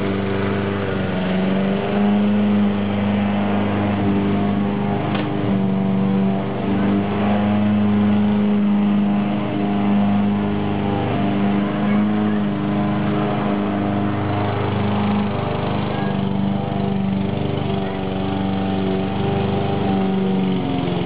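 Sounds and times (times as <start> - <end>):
lawnmower engine running: 0.0 - 21.0.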